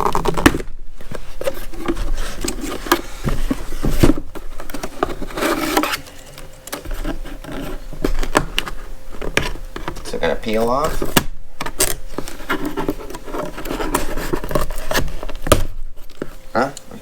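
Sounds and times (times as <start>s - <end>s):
cardboard box rubbing and scraping: 0.0s - 6.1s, 6.8s - 11.2s, 12.0s - 16.5s.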